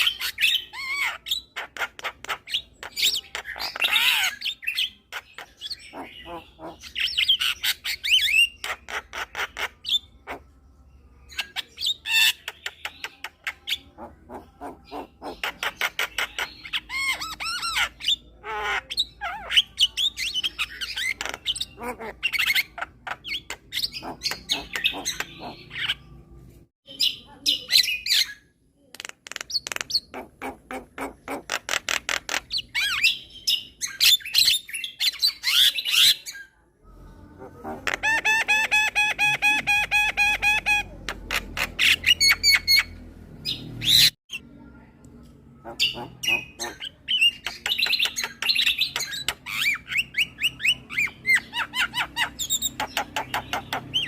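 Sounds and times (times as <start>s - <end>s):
bird chattering song: 0.0s - 26.2s, 26.9s - 36.6s, 37.5s - 44.5s, 45.6s - 54.0s.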